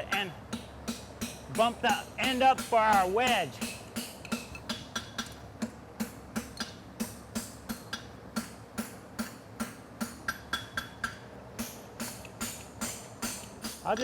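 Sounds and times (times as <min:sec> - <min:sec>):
hammer striking steel on anvil: 0:00.0 - 0:14.0.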